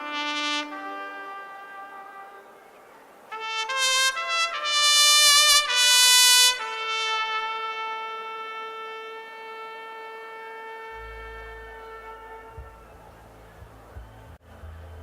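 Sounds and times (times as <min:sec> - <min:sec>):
solo trumpet playing: 0:00.0 - 0:14.0.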